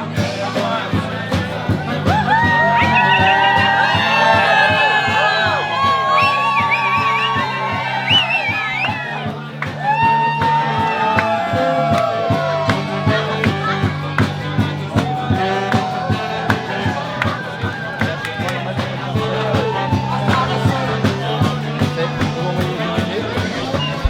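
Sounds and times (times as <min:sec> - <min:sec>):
pop music with singing: 0:00.0 - 0:24.0.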